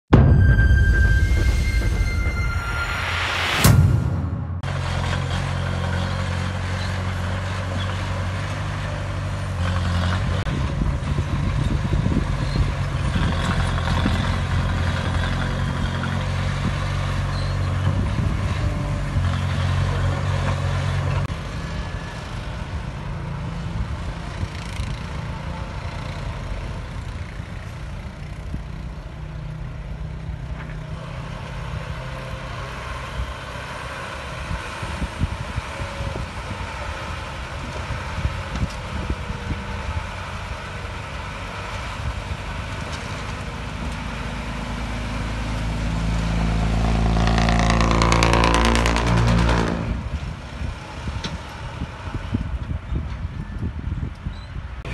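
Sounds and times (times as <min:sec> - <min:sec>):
bulldozer diesel engine running: 0:04.4 - 0:53.8.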